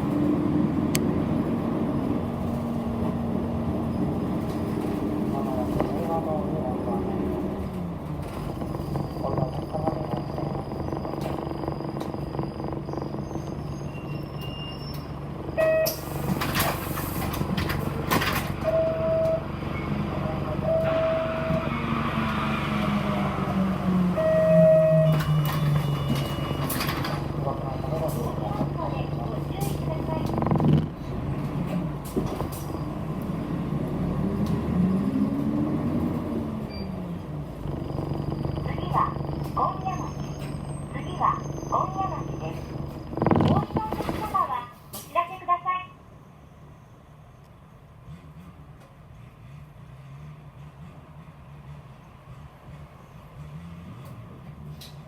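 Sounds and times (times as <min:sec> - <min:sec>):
bus engine running: 0:00.0 - 0:55.0
road noise: 0:00.0 - 0:55.0.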